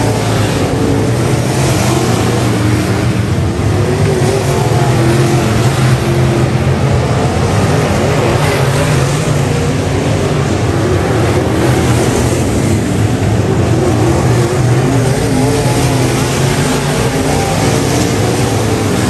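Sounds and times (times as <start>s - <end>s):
race car engines running: 0.0s - 19.0s.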